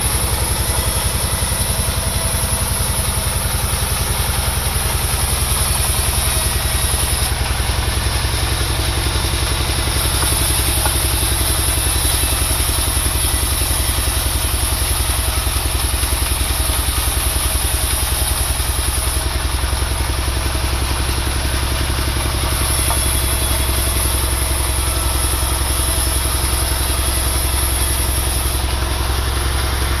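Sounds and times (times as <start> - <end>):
engine drone: 0.0 - 30.0
saw cutting wood hiss: 0.0 - 30.0.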